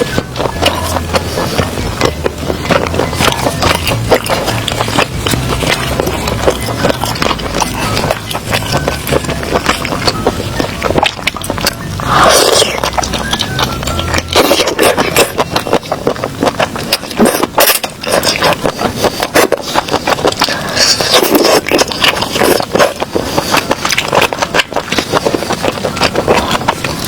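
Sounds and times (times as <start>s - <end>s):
seafood being crunched and chewed: 0.0s - 27.0s.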